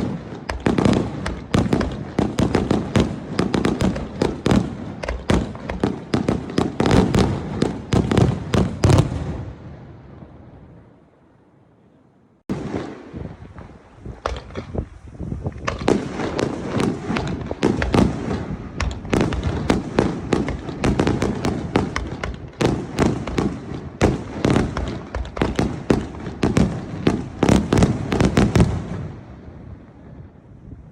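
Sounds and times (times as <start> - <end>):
fireworks cracks and booms: 0.0 - 10.4, 12.5 - 30.4.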